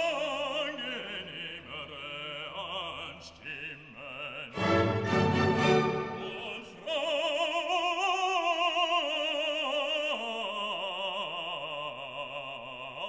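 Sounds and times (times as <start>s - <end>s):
opera singing with vibrato: 0.0s - 13.0s.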